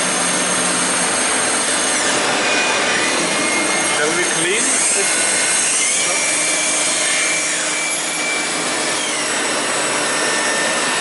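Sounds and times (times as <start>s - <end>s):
high-pitched machine whines: 0.0s - 11.0s.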